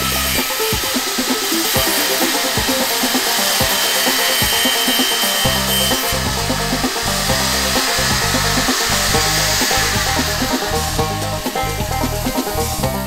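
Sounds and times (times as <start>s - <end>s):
angle grinder cutting plywood: 0.0s - 13.0s
background music: 0.0s - 13.0s.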